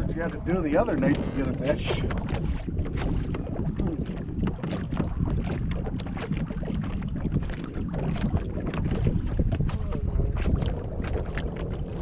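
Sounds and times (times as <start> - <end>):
waves slapping boat hull: 0.0 - 12.0
wind buffeting microphone: 0.0 - 12.0.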